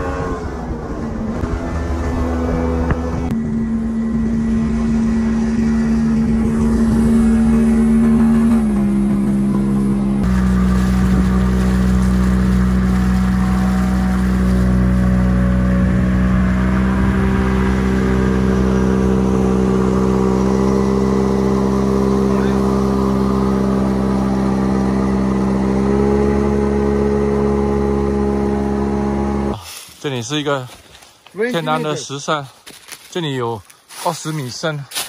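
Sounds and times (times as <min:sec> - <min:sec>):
outboard motor running: 0:00.0 - 0:29.6.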